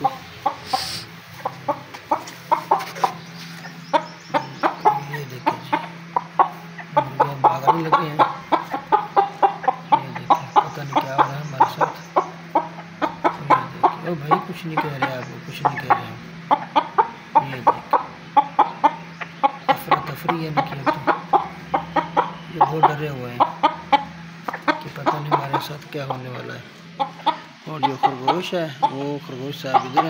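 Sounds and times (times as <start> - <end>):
chickens clucking: 0.0 - 30.0
steady low hum: 0.0 - 30.0.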